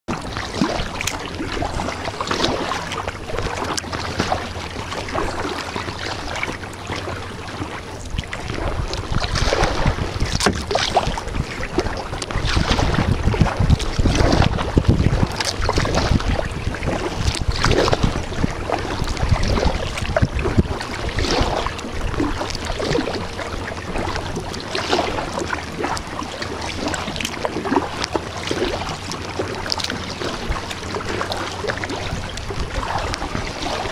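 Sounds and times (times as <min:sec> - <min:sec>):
paddle strokes splashing: 0:00.1 - 0:33.9
water lapping at hull: 0:00.1 - 0:33.9
wind buffeting microphone: 0:00.1 - 0:33.9.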